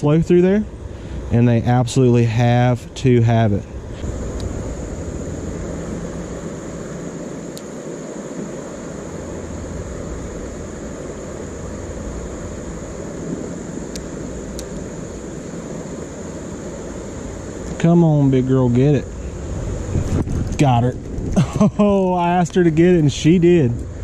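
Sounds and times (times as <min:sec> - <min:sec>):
low outdoor rumble: 0:00.0 - 0:24.0
thin high hiss: 0:03.6 - 0:24.0.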